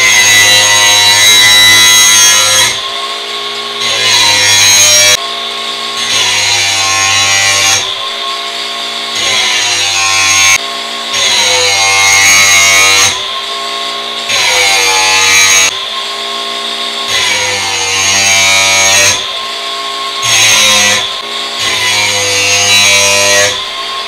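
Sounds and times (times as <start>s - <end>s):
angle grinder grinding metal: 0.0s - 24.0s.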